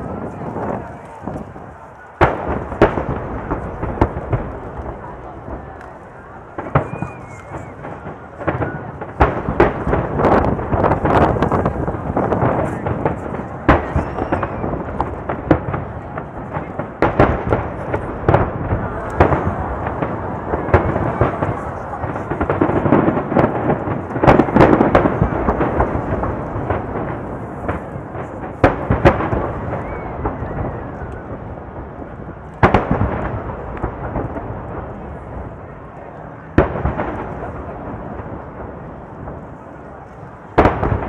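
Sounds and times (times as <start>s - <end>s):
fireworks booming: 0.0s - 41.0s
fireworks crackle: 0.0s - 41.0s.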